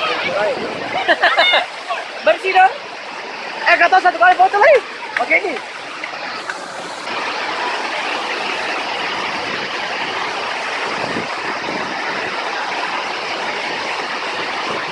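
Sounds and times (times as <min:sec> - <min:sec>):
waterfall roaring: 0:00.0 - 0:14.9.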